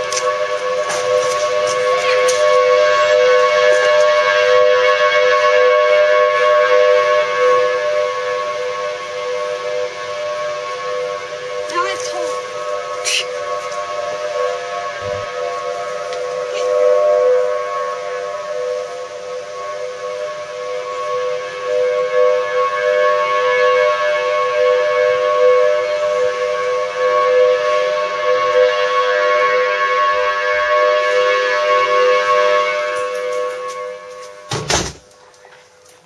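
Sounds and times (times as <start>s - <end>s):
warning sirens wailing: 0.0s - 36.0s.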